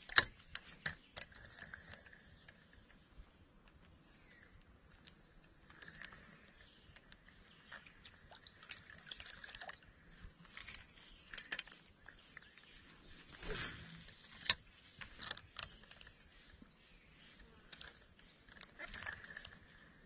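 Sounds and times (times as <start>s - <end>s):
light clicks and rustles: 0.0s - 20.0s.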